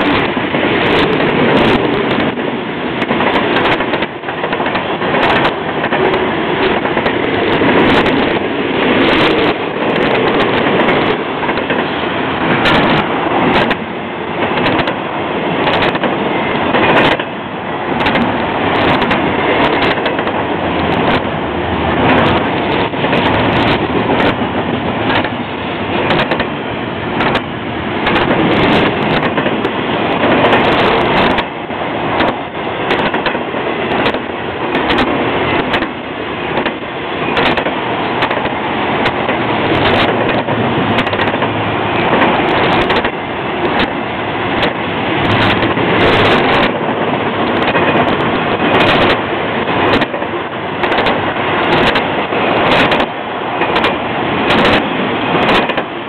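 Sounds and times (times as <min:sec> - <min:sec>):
freight train wheels rumbling: 0:00.0 - 0:56.0
train wheels clicking and clanking: 0:00.0 - 0:56.0.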